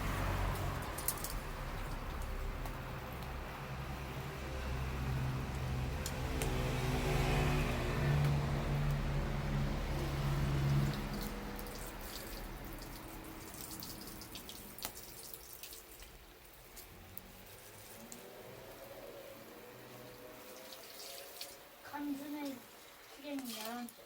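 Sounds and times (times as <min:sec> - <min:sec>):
tap water running and dripping: 0:00.0 - 0:24.0.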